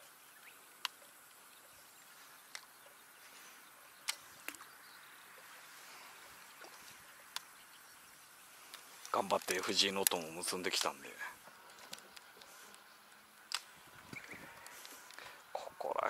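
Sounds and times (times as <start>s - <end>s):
faint outdoor ambience over water: 0.0s - 16.0s.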